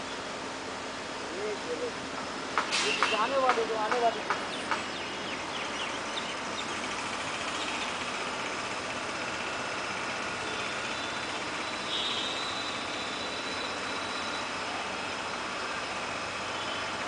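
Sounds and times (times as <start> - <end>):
diesel locomotive engine: 0.0 - 17.0.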